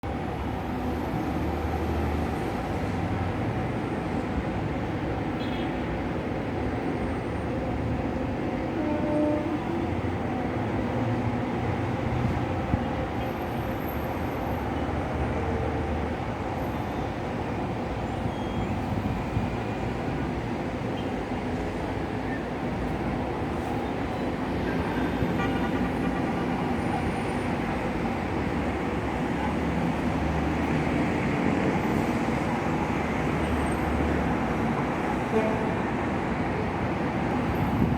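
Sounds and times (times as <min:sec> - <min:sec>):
dense city traffic din: 0:00.0 - 0:37.9.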